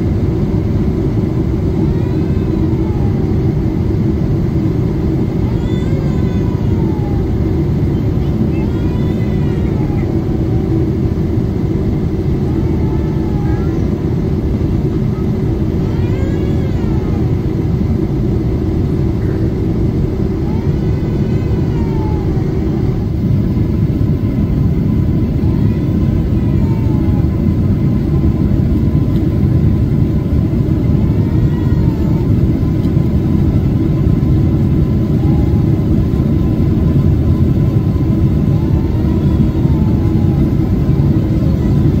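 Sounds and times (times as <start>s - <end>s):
jet engine rumble: 0.0s - 42.0s.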